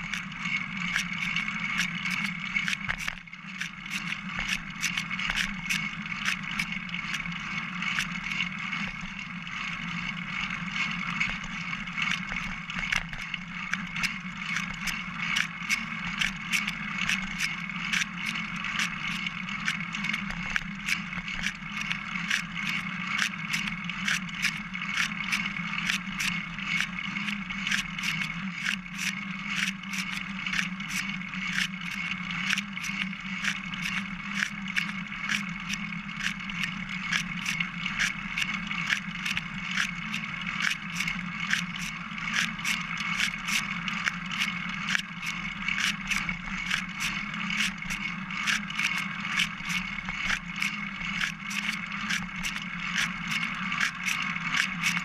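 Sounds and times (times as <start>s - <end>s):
bicycle tyres rolling on trail: 0.0s - 55.0s
bike clicks and rattles: 0.0s - 55.0s.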